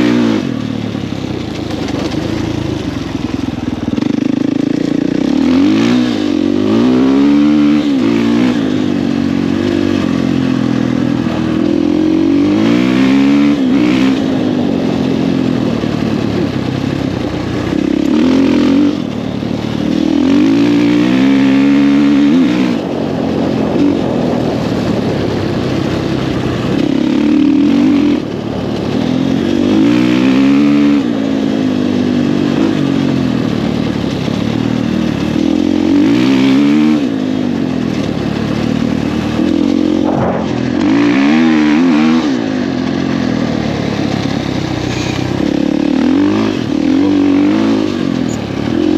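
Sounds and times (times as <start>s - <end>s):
dirt bike engine at full power: 0.0s - 48.9s.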